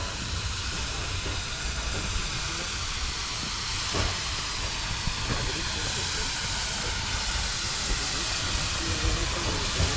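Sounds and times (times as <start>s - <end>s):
steam locomotive hissing: 0.0s - 9.9s.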